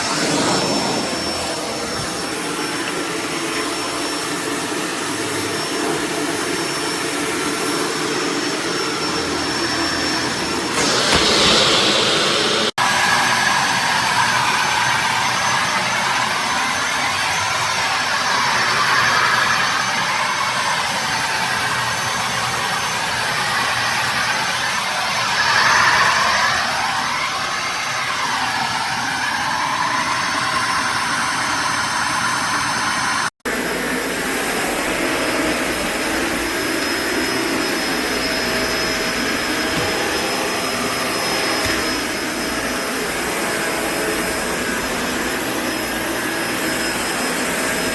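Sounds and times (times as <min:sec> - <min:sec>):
vacuum cleaner motor whine: 0:00.0 - 0:47.9.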